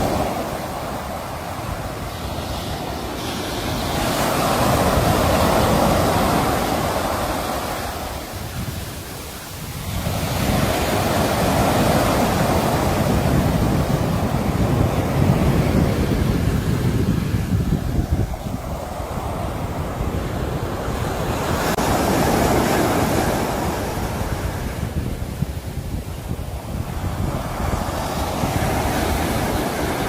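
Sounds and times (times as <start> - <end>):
sea waves breaking ashore: 0.0 - 30.0.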